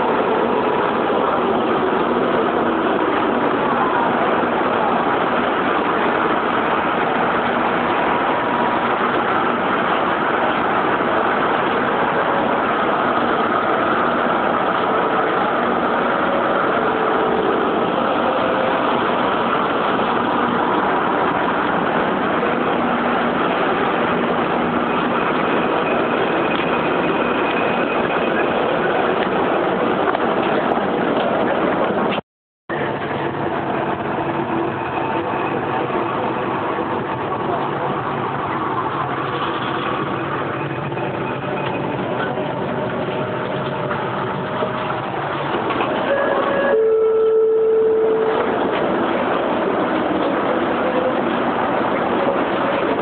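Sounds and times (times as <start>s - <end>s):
metro train running: 0.0s - 53.0s.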